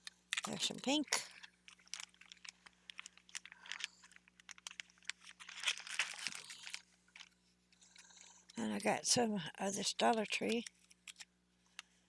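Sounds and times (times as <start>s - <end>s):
plastic packaging crinkling: 0.0s - 8.9s, 9.8s - 11.8s.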